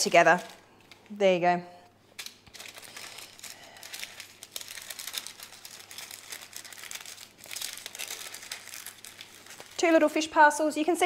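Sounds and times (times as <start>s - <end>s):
baking paper crinkling: 0.0s - 1.2s, 2.1s - 11.0s.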